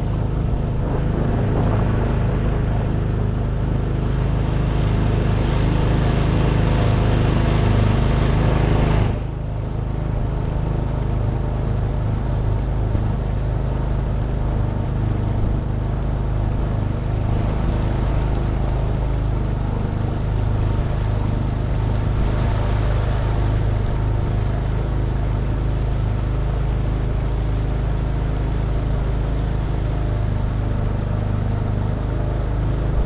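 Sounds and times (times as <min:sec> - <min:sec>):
boat motor running: 0:00.0 - 0:33.0
hiss of water and wind: 0:00.0 - 0:33.0.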